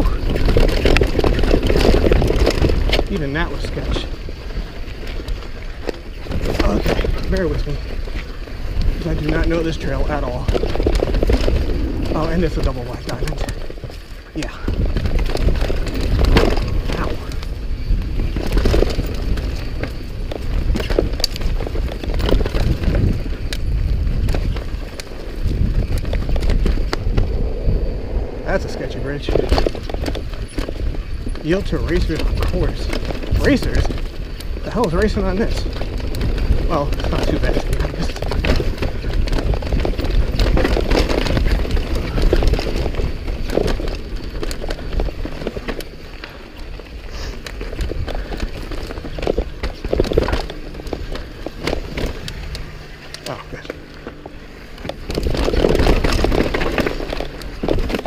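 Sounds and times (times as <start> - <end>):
bike rattling over rough ground: 0.0 - 58.0
tyres over dirt and rocks: 0.0 - 58.0
wind rumbling on microphone: 0.0 - 58.0.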